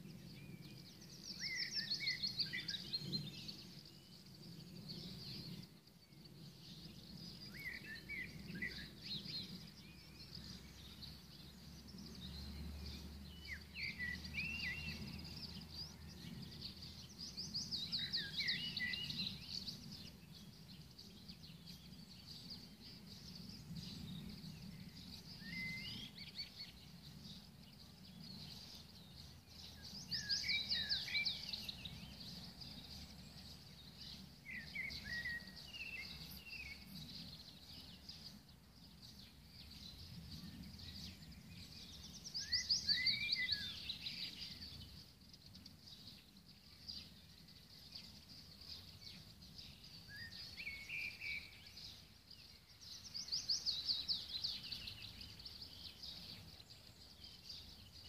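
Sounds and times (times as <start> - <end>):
songbirds trilling: 0.0 - 58.0.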